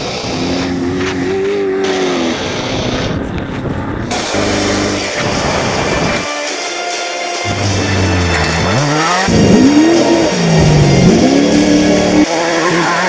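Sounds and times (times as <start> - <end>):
race car engines revving: 0.0 - 6.2, 7.4 - 13.0.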